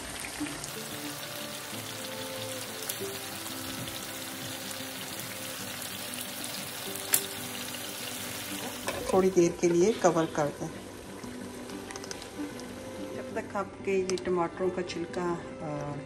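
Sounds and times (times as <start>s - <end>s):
food sizzling in hot oil: 0.0s - 13.4s
soft background music: 0.0s - 16.0s.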